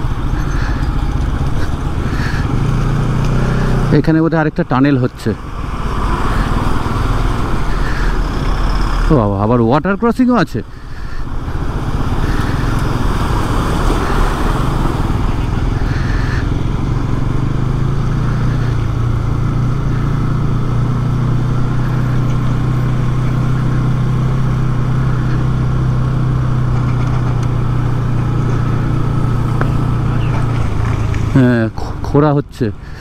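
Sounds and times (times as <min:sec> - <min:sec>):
motorcycle engine running: 0:00.0 - 0:33.0
wind and tyre noise: 0:00.0 - 0:33.0.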